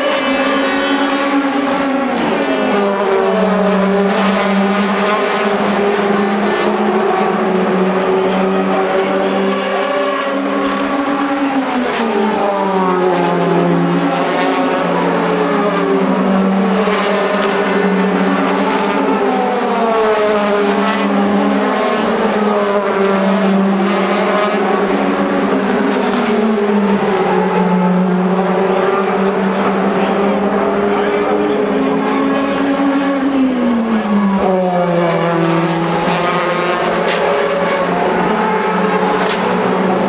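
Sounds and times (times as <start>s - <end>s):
racing car engines: 0.0s - 40.0s.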